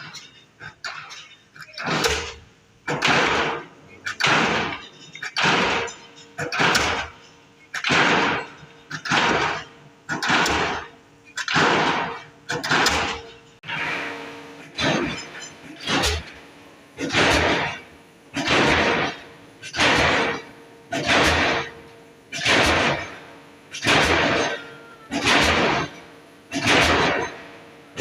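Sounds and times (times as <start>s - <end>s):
pile-driving hammer striking steel: 0.0s - 28.0s.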